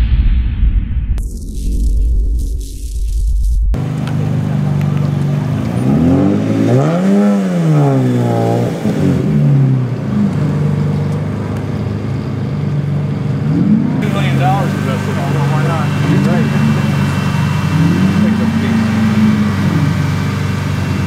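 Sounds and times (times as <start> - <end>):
car engine revving: 3.7 - 21.0.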